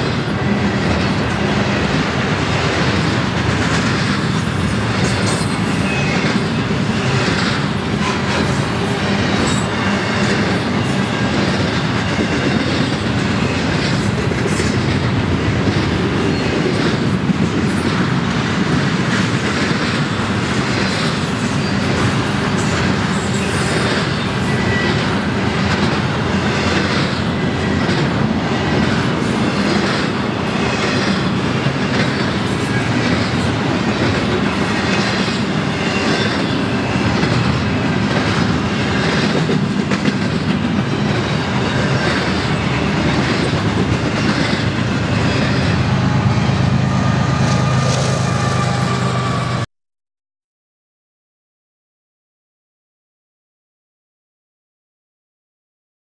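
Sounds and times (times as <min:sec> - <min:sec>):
wheels clickety-clack on rail: 0:00.0 - 0:49.6
freight train rolling past: 0:00.0 - 0:49.7.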